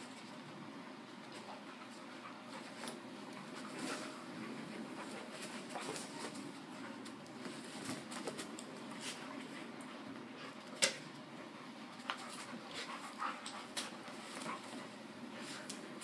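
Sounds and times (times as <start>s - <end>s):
dogs scuffling and breathing: 0.0s - 16.0s.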